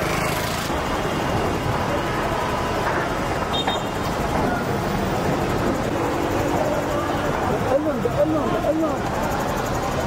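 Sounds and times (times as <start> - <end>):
road traffic: 0.0 - 10.0
faint voices: 1.4 - 10.0.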